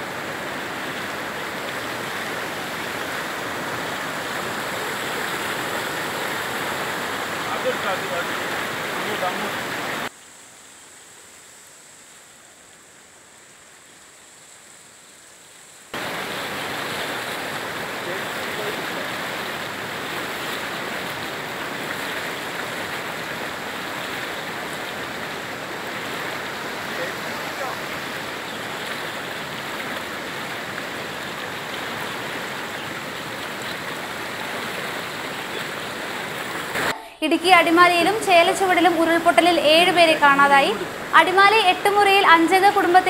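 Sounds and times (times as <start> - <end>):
floodwater rushing: 0.0 - 10.6, 15.9 - 43.0.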